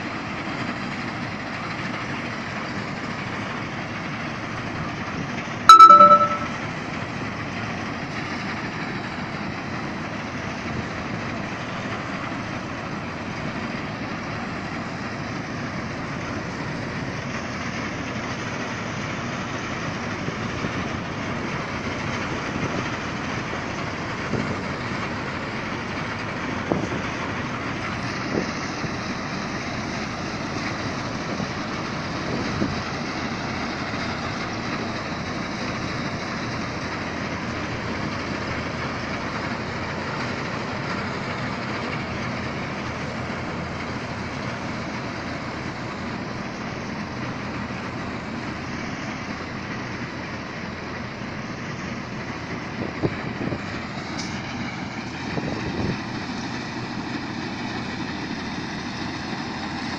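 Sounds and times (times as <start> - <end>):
harvest machinery running: 0.0 - 5.7, 6.6 - 59.9.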